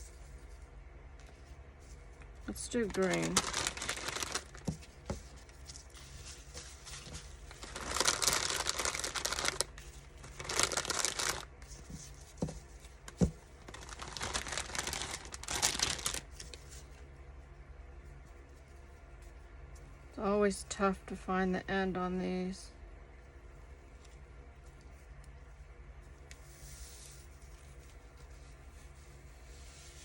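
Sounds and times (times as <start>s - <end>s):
ribbon crinkling and rustling: 0.0s - 20.1s, 23.4s - 30.0s.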